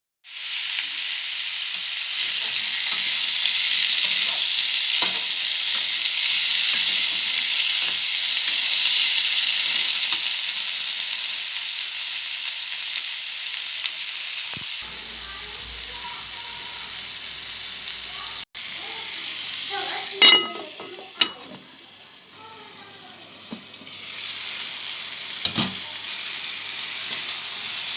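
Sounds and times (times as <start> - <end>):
food sizzling in hot oil: 0.2 - 27.9.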